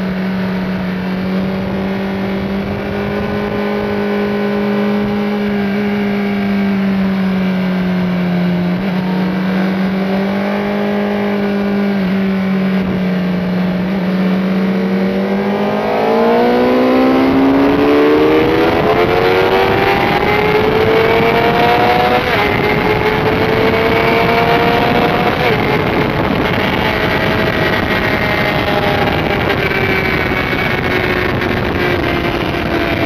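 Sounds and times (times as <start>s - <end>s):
motorcycle engine revving: 0.0s - 33.0s
wind noise: 0.0s - 33.0s.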